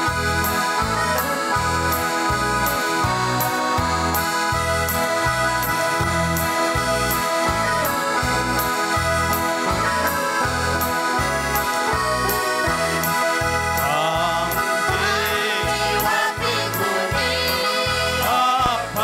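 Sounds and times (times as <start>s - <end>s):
keyboard with accordion-like tone: 0.0s - 19.0s.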